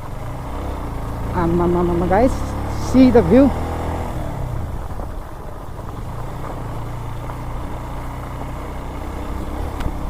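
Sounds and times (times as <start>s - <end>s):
motorcycle engine at low revs: 0.0s - 10.0s
road noise: 0.0s - 10.0s.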